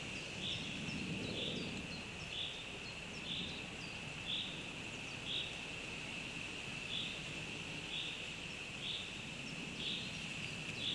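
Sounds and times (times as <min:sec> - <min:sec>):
outdoor background hiss: 0:00.0 - 0:10.9.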